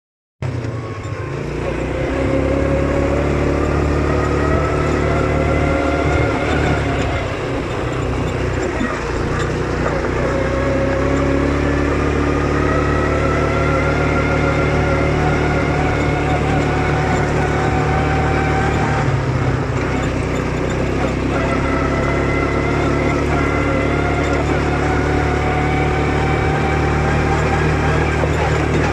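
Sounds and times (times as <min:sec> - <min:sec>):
quad bike engine accelerating: 0:00.4 - 0:28.9.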